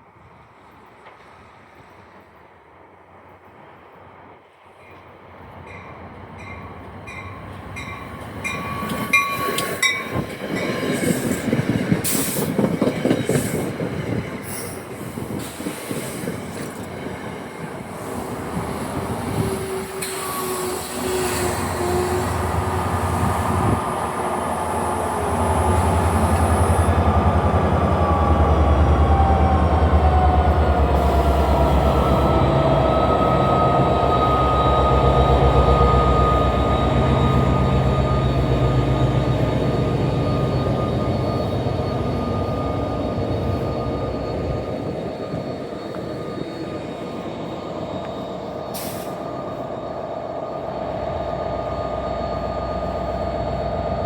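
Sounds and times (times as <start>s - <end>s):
low train rumble: 0.0s - 54.0s
train wheel squeal: 5.7s - 54.0s.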